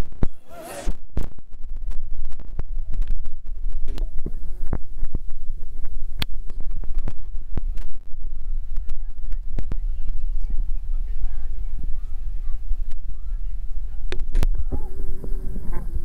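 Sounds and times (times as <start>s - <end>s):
wind buffeting microphone: 1.6s - 16.0s.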